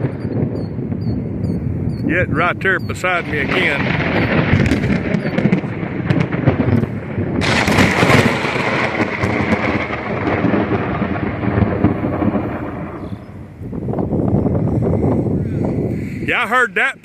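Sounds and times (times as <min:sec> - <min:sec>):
sharp thunder crack: 0:00.0 - 0:16.1
thunder rumble: 0:00.0 - 0:16.4.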